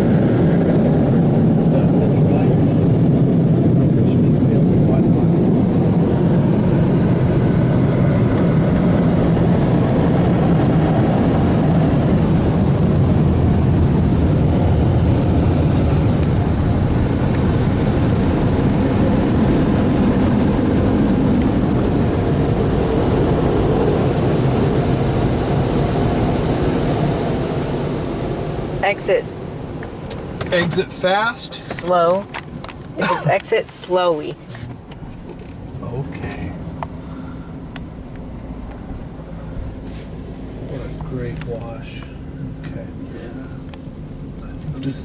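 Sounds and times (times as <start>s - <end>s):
car wash blower dryers: 0.0s - 45.0s.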